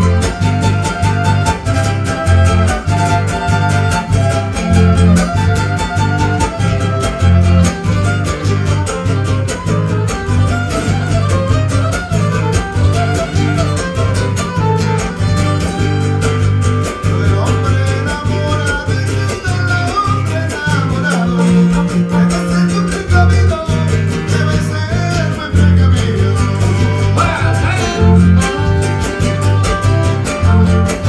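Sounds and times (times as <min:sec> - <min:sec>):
guitars and violin: 0:00.0 - 0:31.0
pulsing bass: 0:00.0 - 0:31.0.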